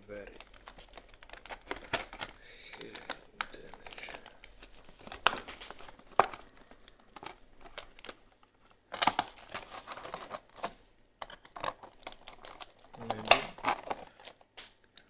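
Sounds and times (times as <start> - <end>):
plastic packaging crinkling: 0.0 - 14.6.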